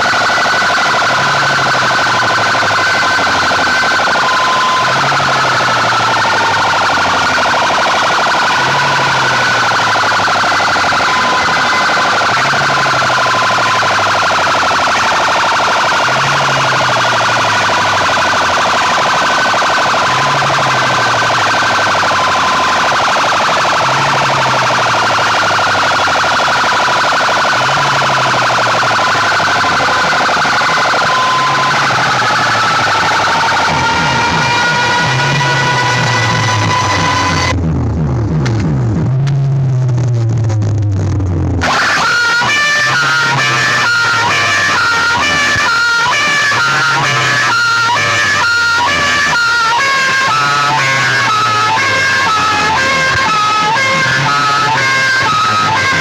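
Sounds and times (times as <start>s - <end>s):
loud electronic siren tone: 0.0s - 56.0s.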